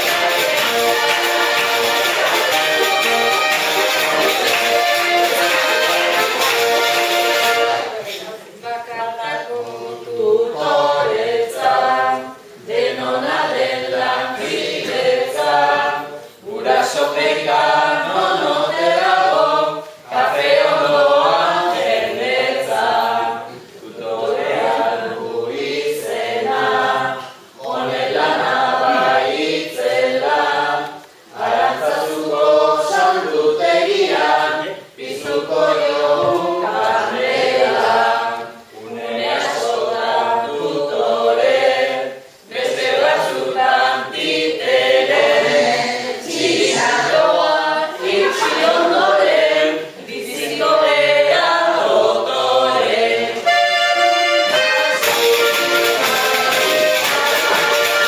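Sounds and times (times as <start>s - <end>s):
group singing unaccompanied: 0.0s - 58.0s.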